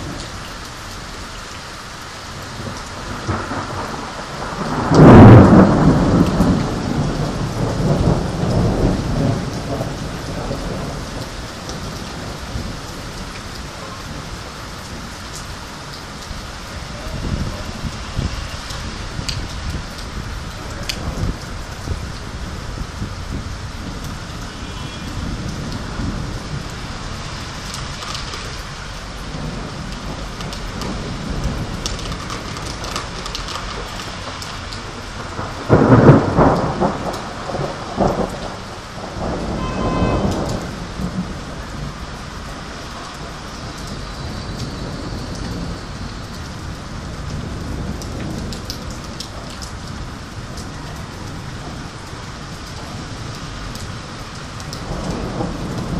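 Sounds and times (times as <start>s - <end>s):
steady rain: 0.0s - 55.9s
thunder rumbling: 2.3s - 55.9s.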